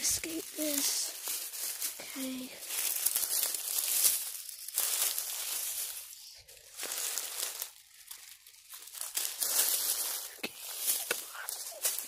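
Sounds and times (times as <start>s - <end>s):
leaves crunching underfoot: 0.0s - 12.0s
twigs scraping clothing: 0.0s - 12.0s.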